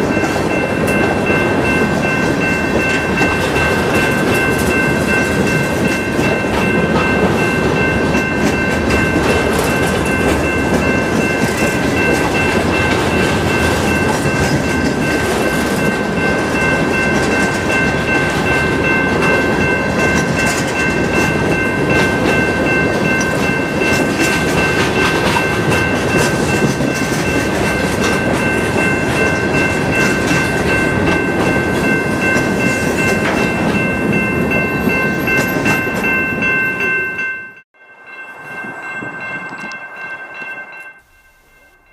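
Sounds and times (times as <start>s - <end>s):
freight train wheels rattling: 0.0s - 37.1s.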